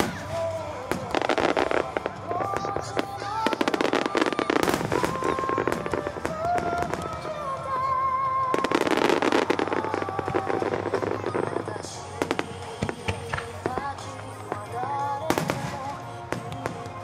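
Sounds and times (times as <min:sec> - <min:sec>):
firework bursts and crackling: 0:00.0 - 0:17.0
music over loudspeakers: 0:00.0 - 0:17.0.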